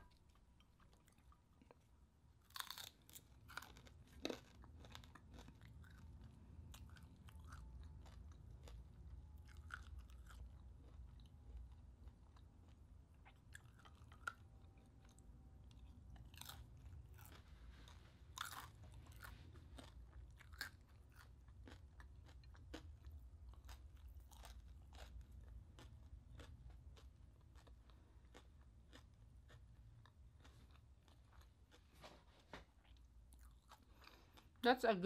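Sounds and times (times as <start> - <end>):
crunching and chewing of crispy food: 0.0 - 34.7.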